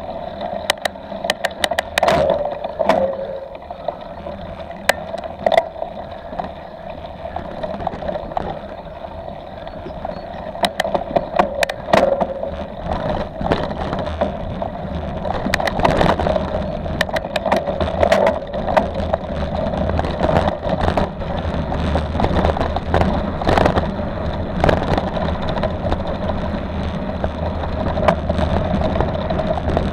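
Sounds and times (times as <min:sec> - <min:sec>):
bike rattling over bumps: 0:00.0 - 0:29.9
tyre and wind rumble: 0:00.0 - 0:29.9.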